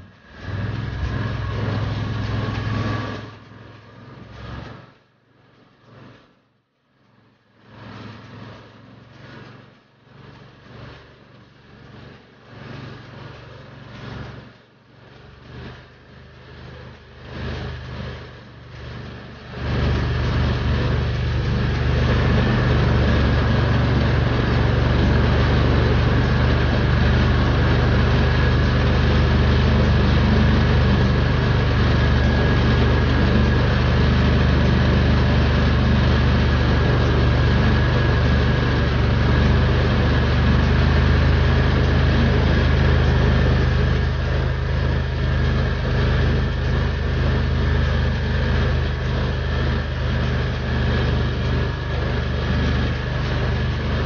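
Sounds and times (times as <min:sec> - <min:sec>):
atv engine running: 0:00.0 - 0:04.9, 0:07.6 - 0:54.0
thin steady whine: 0:00.0 - 0:54.0.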